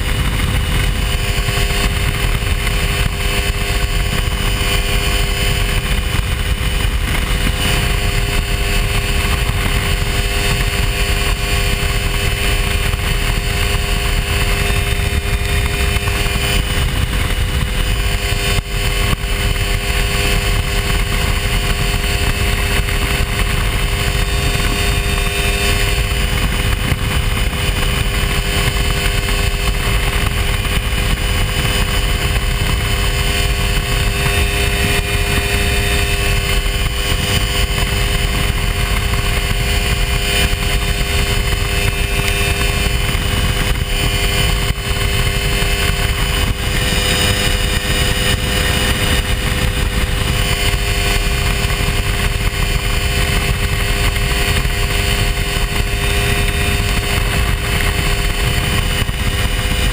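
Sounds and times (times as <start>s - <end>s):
airplane engine drone: 0.0s - 59.9s
heavy low rumble: 0.0s - 59.9s.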